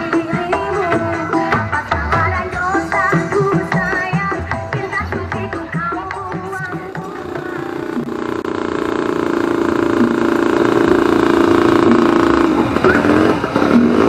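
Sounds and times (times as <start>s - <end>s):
motorcycle engine running: 2.4s - 14.0s.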